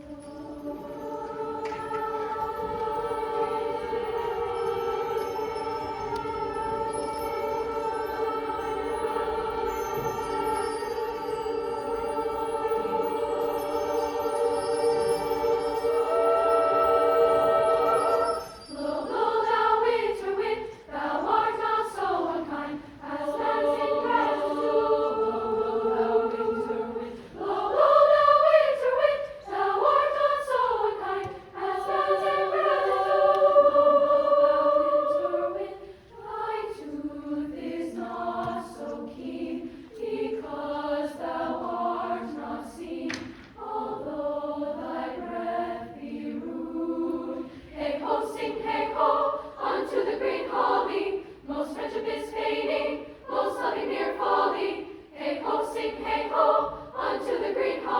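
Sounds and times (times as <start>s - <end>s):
treble choir singing: 0.0s - 57.9s.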